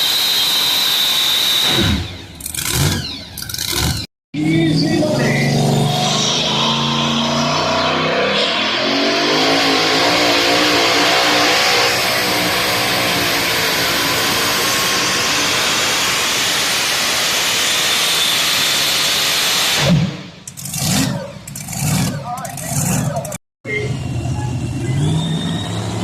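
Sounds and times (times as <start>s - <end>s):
truck engine revving: 1.4s - 26.0s.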